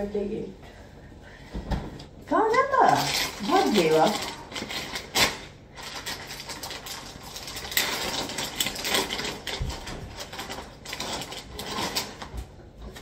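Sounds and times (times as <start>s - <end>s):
plastic bag crinkling: 2.4s - 13.0s.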